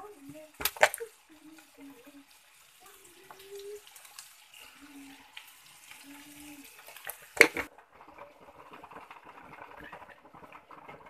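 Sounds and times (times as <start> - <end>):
onions sizzling in oil: 0.0 - 11.0
spatula stirring in pan: 0.0 - 11.0.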